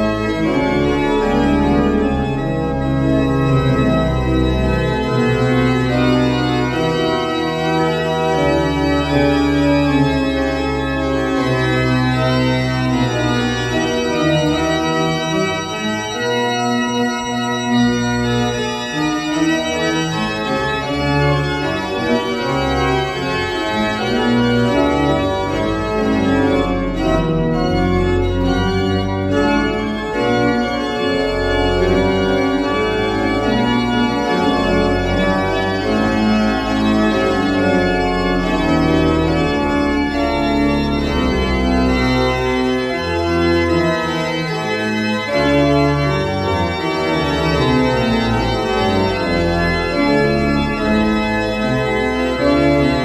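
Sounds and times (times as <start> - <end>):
deep sustained organ bass: 0.0 - 53.0
pipe organ chords: 0.0 - 53.0.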